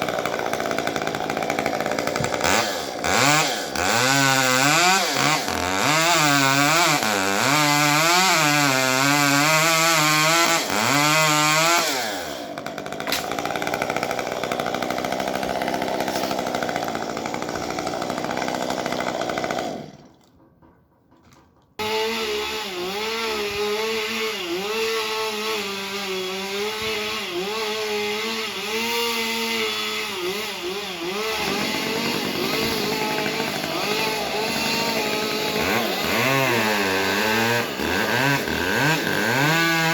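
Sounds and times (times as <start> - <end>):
chainsaw cutting a tree: 0.0 - 20.4, 21.8 - 39.9.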